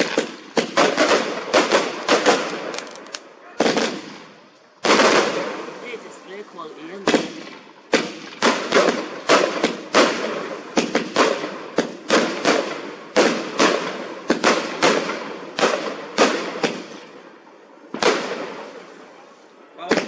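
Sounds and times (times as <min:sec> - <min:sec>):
firework bangs with crackle: 0:00.0 - 0:06.4, 0:07.0 - 0:17.2, 0:17.9 - 0:18.9.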